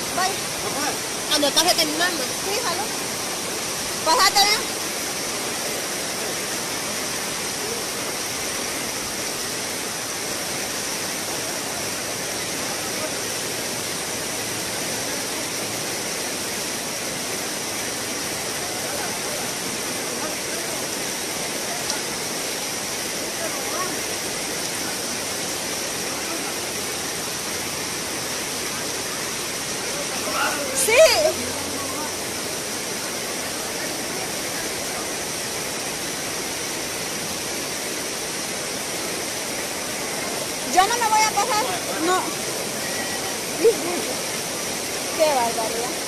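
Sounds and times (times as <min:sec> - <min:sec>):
floodwater rushing: 0:00.0 - 0:46.0
heavy rain: 0:00.0 - 0:46.0.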